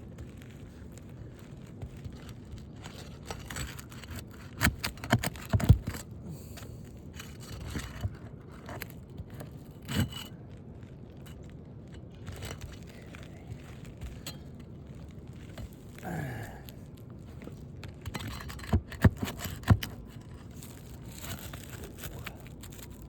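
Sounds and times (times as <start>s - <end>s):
shingles scraping and rustling: 0.0s - 23.0s.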